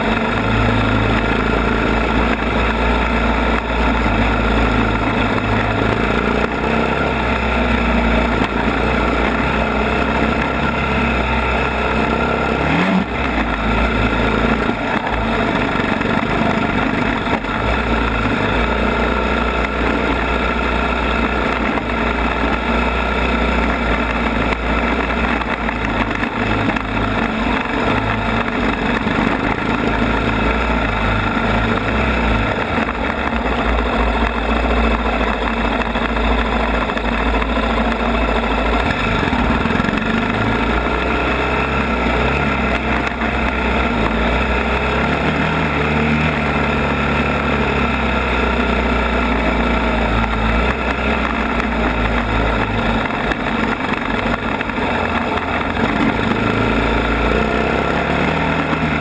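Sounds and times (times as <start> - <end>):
atv engine running loudly: 0.0 - 59.0.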